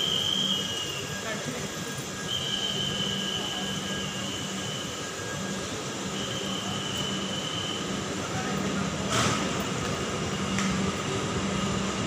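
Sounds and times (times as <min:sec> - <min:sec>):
rumble of train wheels on rails: 0:00.0 - 0:12.0.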